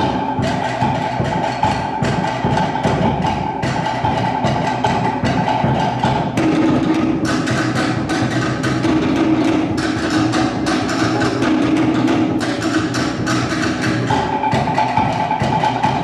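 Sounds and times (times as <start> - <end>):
steady drum backing: 0.0 - 16.0
wooden slit drum rhythm: 0.0 - 16.0.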